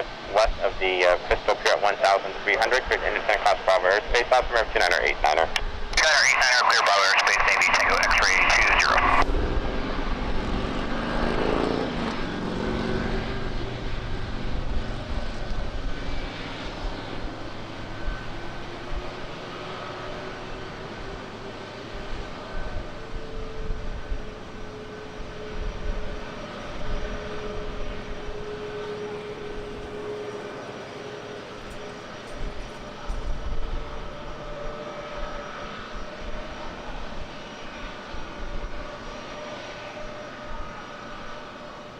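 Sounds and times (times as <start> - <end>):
jet engines roaring at takeoff: 0.0 - 41.9.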